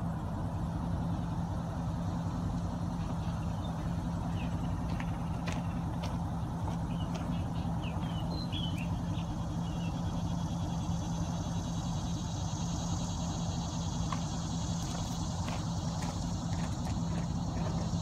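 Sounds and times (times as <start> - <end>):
insect drone: 0.0 - 18.0
steady low hum: 0.0 - 18.0
birds chirping: 2.0 - 18.0.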